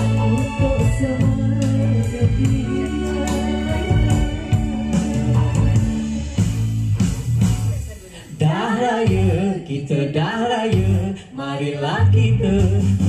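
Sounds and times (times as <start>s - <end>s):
person singing: 0.0s - 6.5s, 8.0s - 13.0s
pop backing music: 0.0s - 13.0s.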